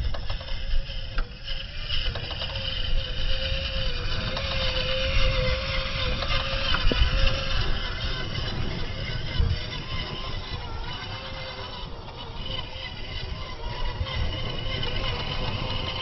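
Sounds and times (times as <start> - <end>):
electric motor and gears whining: 0.0 - 16.0
wind on microphone: 0.0 - 16.0.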